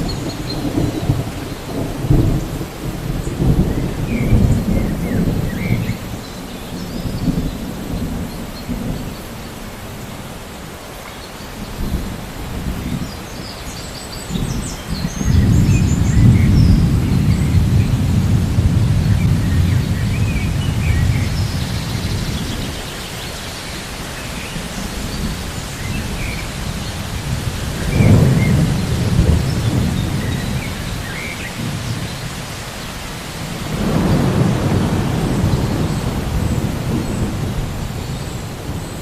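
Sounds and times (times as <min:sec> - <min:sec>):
rolling thunder: 0:00.0 - 0:09.1, 0:14.3 - 0:23.0, 0:24.4 - 0:32.6, 0:33.3 - 0:39.0
rain falling: 0:00.0 - 0:39.0.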